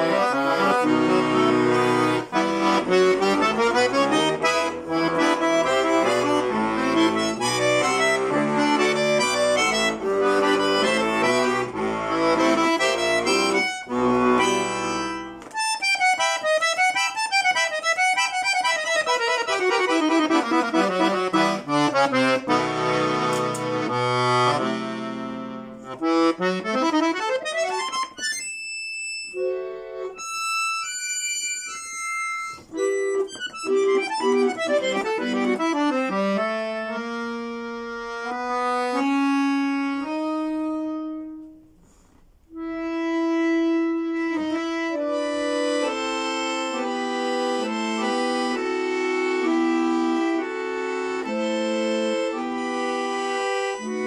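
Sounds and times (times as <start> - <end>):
button accordion playing folk music: 0.0 - 54.0.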